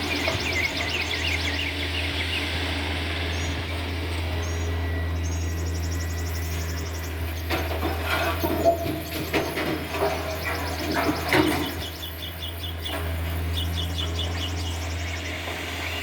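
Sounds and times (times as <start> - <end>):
birds chirping: 0.0 - 16.0
distant diesel engine drone: 0.0 - 16.0.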